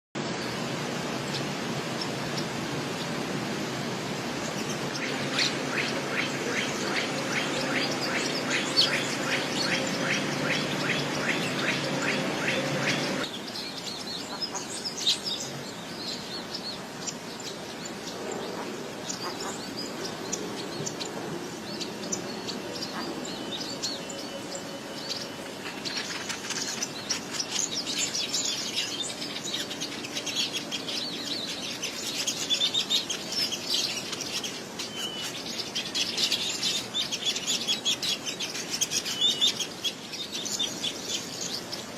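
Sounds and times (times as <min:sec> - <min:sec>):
small birds chirping: 0:00.2 - 0:41.9.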